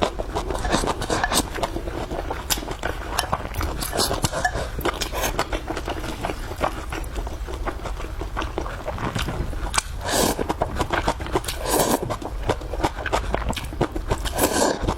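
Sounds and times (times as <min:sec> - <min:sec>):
person chewing and biting food: 0:00.0 - 0:14.9.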